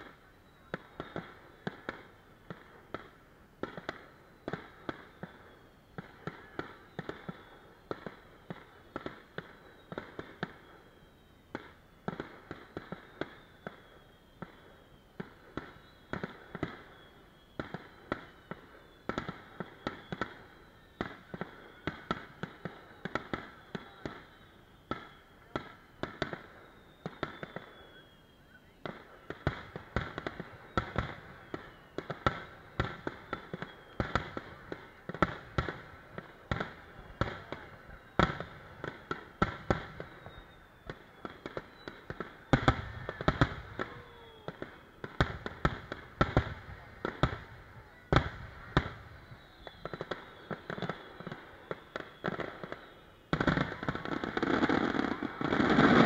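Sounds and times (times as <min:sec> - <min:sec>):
fireworks bangs and crackles: 0:00.0 - 0:56.0
fireworks whistling: 0:00.0 - 0:56.0.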